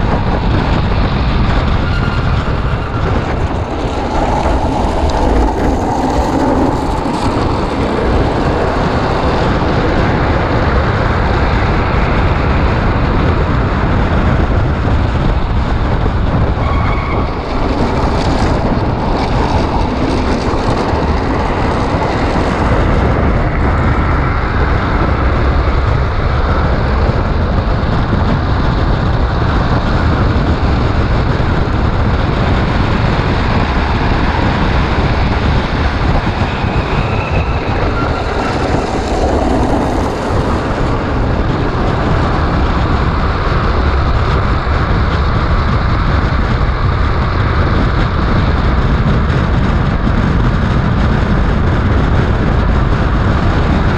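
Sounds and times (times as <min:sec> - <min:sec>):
wheels rolling fast on asphalt: 0:00.0 - 0:53.9
wind buffeting microphone: 0:00.0 - 0:53.9.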